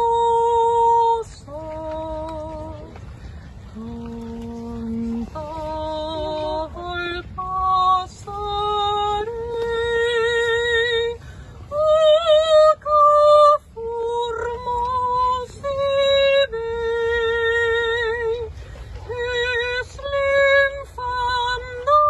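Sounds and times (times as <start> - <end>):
woman singing unaccompanied: 0.0 - 22.0.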